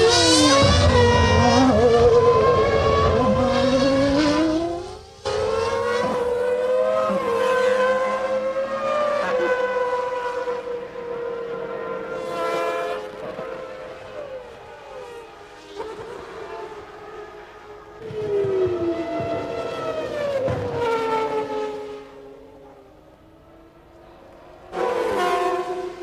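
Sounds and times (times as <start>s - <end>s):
racing car engines at high revs: 0.0s - 26.0s.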